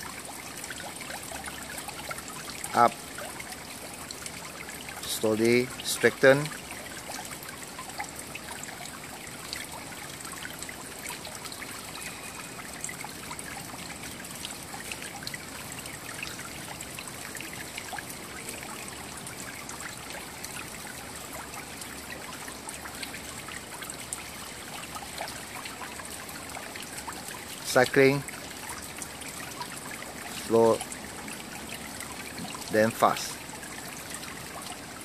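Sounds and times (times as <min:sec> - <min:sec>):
water trickling: 0:00.0 - 0:35.0.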